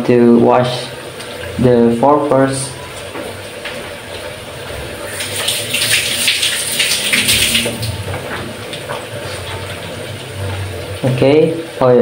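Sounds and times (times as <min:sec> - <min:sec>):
tap water running into sink: 0:01.0 - 0:11.8.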